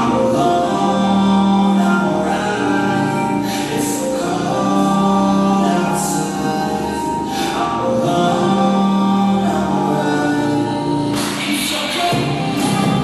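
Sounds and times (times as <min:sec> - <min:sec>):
choir-like singing over chords: 0:00.0 - 0:13.0.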